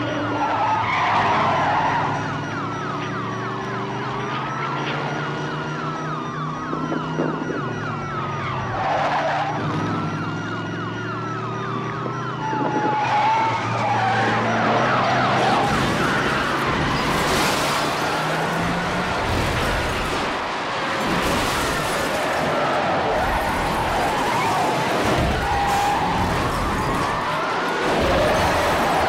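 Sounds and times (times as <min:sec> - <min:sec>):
car noise: 0:00.0 - 0:29.0
police sirens wailing: 0:00.0 - 0:29.0.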